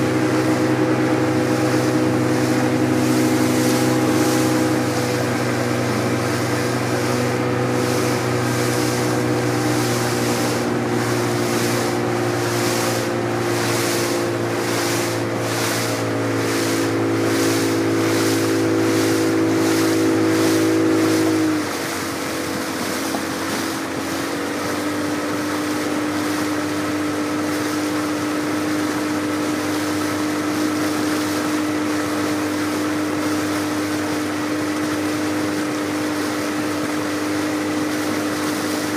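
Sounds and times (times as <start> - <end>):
motorboat engine running: 0.0 - 38.9
water hissing along hull: 0.0 - 38.9.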